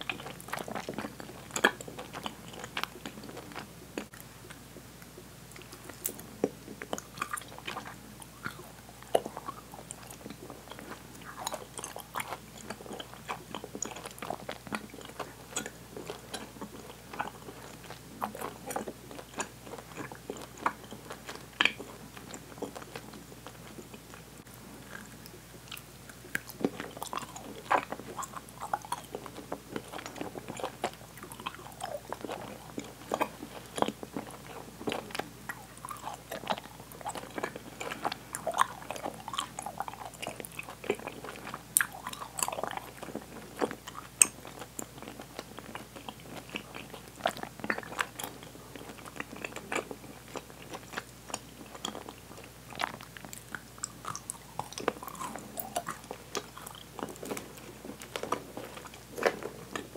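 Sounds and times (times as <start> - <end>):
open-mouthed chewing of sticky candy: 0.0 - 59.9.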